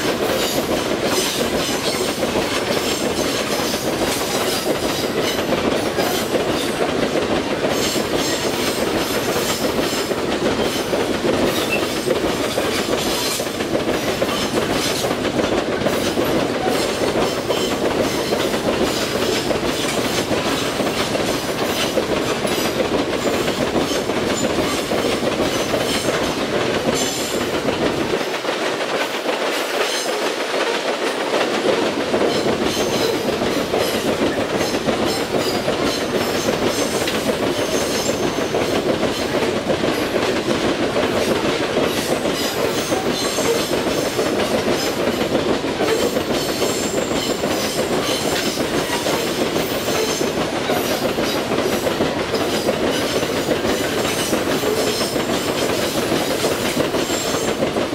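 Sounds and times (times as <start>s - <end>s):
steel wheels rumbling on rail: 0.0s - 57.9s
wheels clacking over rail joints: 0.0s - 57.9s.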